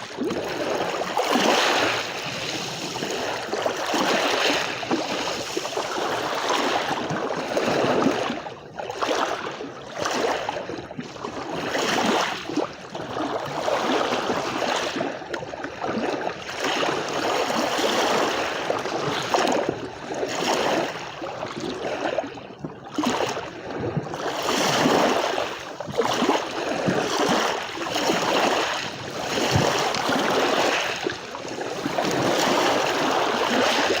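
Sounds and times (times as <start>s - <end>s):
sea waves lapping on shore: 0.0s - 34.0s.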